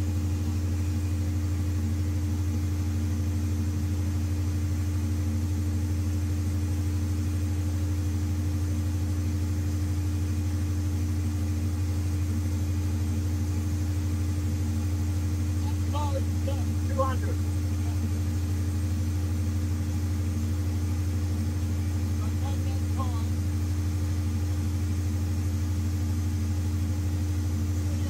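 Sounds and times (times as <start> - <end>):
constant higher hum: 0.0 - 28.0
generator engine drone: 0.0 - 28.0.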